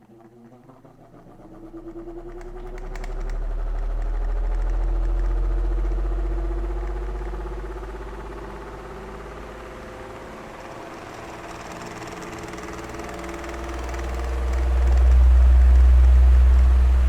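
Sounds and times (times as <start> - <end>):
electric fan rumbling: 0.0 - 17.0.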